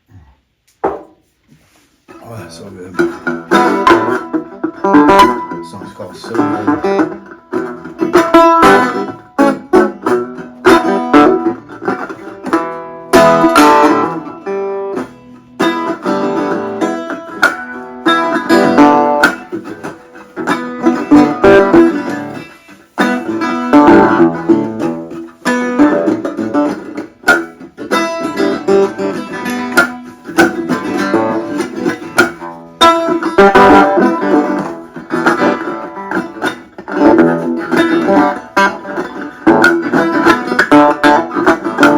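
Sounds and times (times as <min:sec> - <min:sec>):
resonator guitar plucked: 0:02.1 - 0:41.9.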